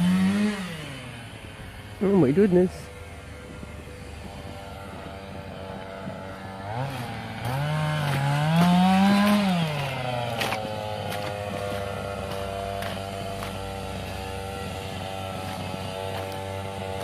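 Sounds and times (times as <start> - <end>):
small petrol engine revving: 0.0 - 17.0.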